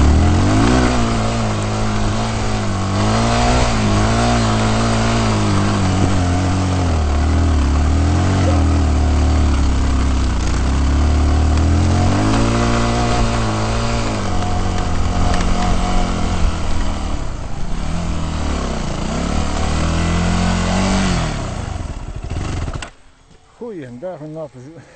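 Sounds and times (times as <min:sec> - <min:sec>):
off-road vehicle engine revving: 0:00.0 - 0:22.9.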